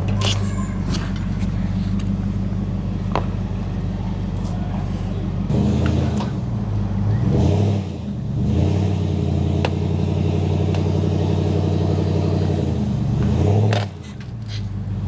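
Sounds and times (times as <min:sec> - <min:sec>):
pickup truck engine under load: 0:00.0 - 0:15.0.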